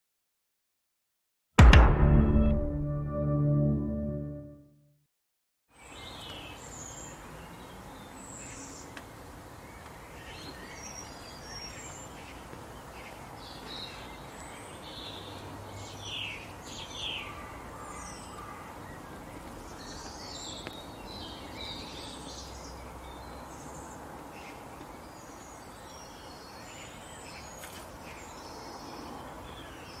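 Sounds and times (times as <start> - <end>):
birds chirping: 5.8 - 30.0.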